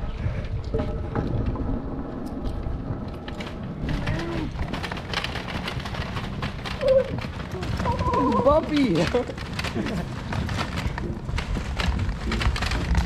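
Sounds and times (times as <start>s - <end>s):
frame and wheels rattling: 0.0s - 13.0s
small wheels rumbling over paving: 0.0s - 13.0s.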